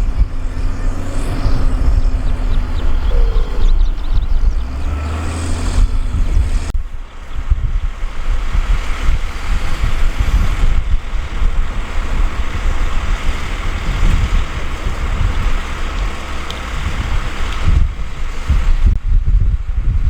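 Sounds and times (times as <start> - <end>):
diesel machinery running: 0.0 - 19.0
wind buffeting microphone: 0.0 - 20.0.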